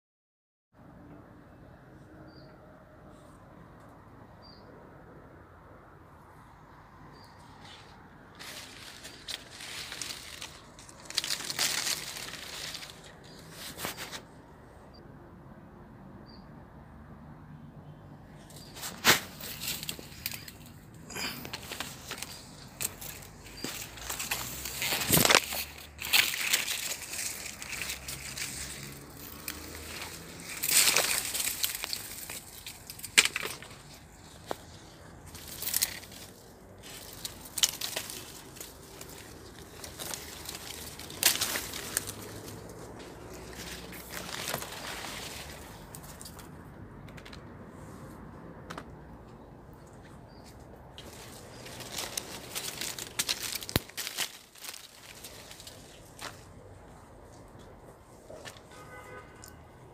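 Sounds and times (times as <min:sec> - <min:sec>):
dry leaves and twigs crunching: 0:06.5 - 0:14.6, 0:18.2 - 0:59.6.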